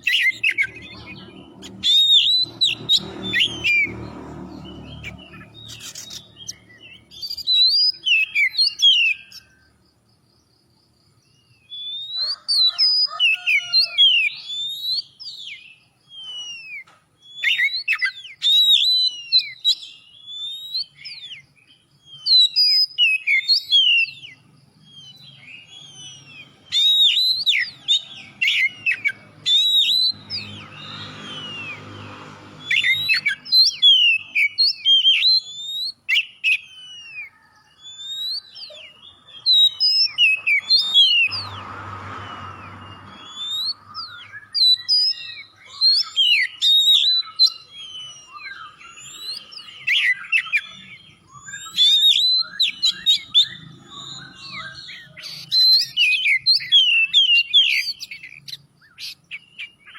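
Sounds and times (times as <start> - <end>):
bird singing loud whistles: 0.0 - 9.7, 11.4 - 59.9.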